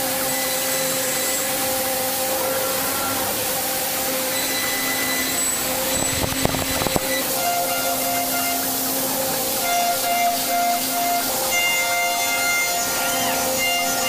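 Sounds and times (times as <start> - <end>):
milling machine cutting hiss and whine: 0.0 - 14.0.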